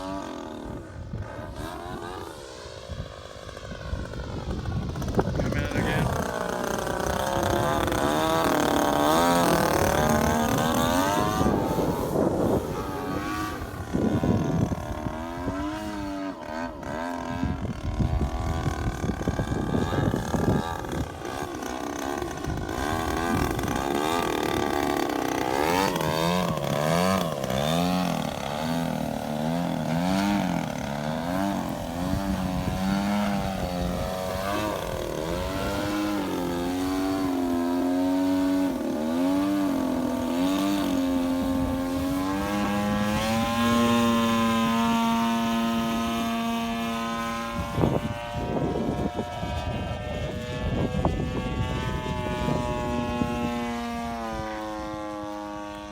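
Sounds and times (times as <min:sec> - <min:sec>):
model plane engine in flight: 0:00.0 - 0:55.9.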